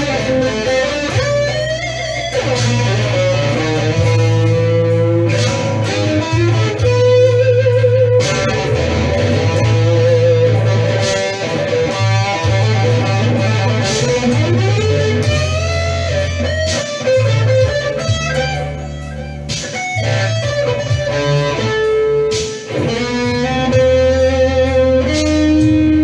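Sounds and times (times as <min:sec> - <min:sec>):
electric guitar playing blues: 0:00.0 - 0:26.0
stepping bass line: 0:00.0 - 0:26.0.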